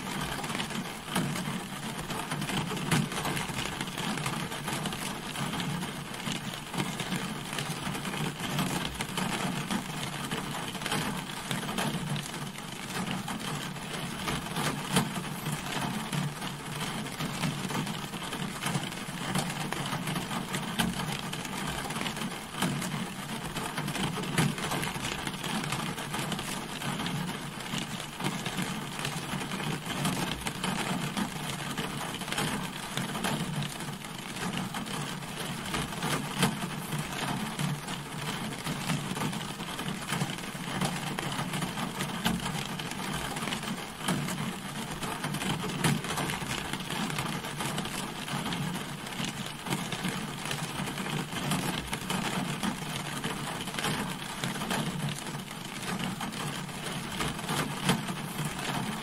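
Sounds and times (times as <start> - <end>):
rain drumming on car body: 0.0 - 59.0.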